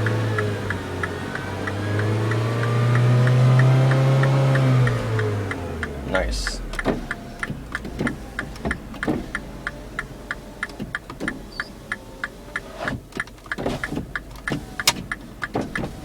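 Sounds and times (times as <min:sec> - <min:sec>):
car engine idling: 0:00.0 - 0:16.0
turn signal ticking: 0:00.0 - 0:16.0.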